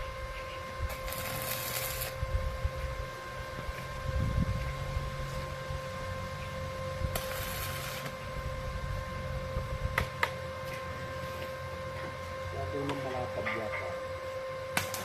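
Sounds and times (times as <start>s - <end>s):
arc welding crackling hiss: 0.0s - 5.6s, 6.3s - 14.0s, 14.7s - 15.0s
electrical hum with high whine: 0.0s - 15.0s.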